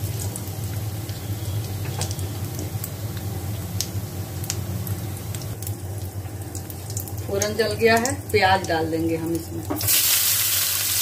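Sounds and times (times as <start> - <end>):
spices popping: 0.0 - 11.0
spices sizzling in hot oil: 0.0 - 11.0.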